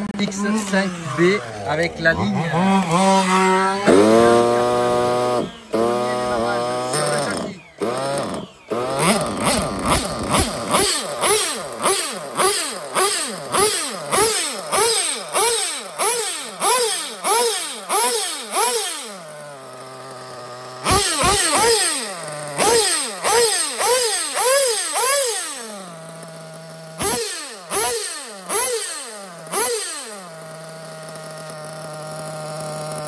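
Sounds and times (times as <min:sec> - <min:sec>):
nitro engine revving: 0:00.0 - 0:33.0.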